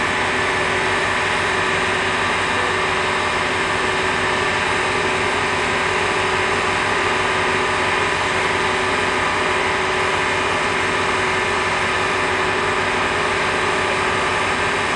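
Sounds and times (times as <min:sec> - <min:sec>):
machinery engine idling drone: 0:00.0 - 0:14.9.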